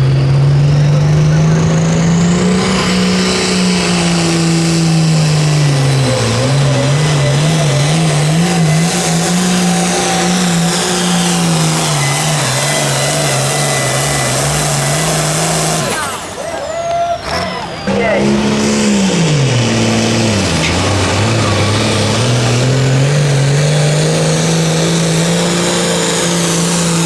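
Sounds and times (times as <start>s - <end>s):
engine at high revs: 0.0s - 27.0s.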